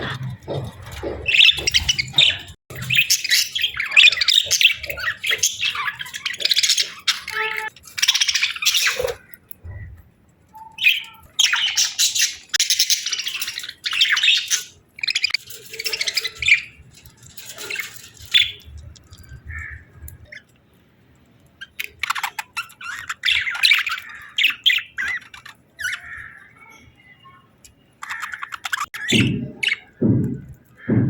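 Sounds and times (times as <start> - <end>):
budgerigars chirping and chattering: 0.0 - 9.9, 10.6 - 20.5, 21.5 - 31.0.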